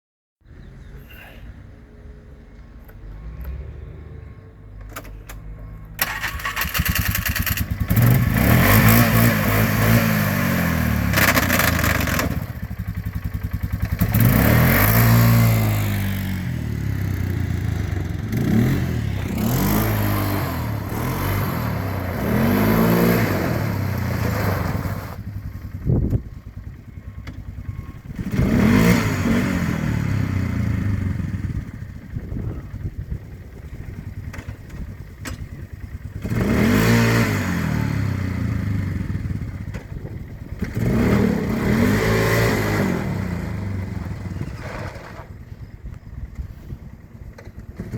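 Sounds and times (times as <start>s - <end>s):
atv engine revving: 6.0s - 47.9s.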